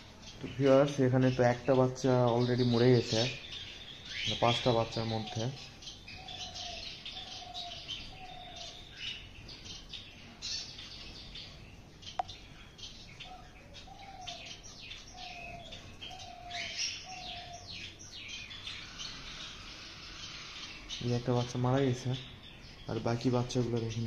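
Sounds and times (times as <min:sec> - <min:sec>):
finches chirping: 0:00.0 - 0:24.0.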